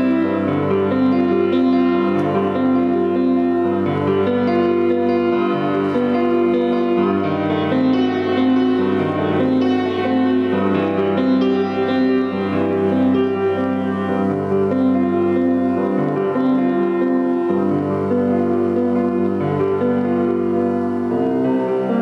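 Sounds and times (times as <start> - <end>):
grand piano playing: 0.0 - 22.0.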